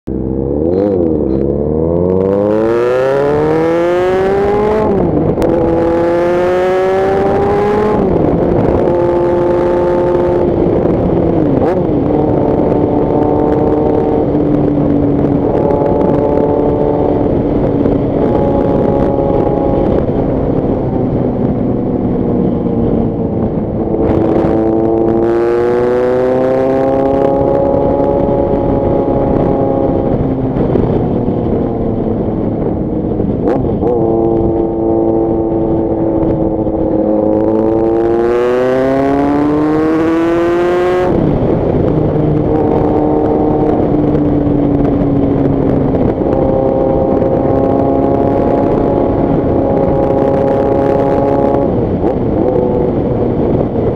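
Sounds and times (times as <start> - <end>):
motorcycle engine accelerating: 0.1 - 53.9.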